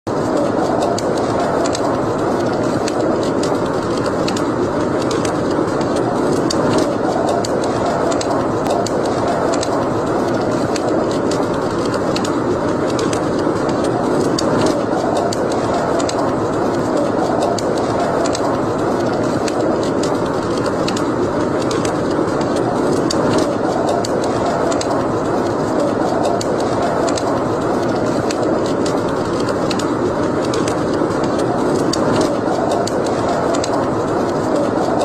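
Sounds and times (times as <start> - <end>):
wood fire crackling: 0.1 - 35.0.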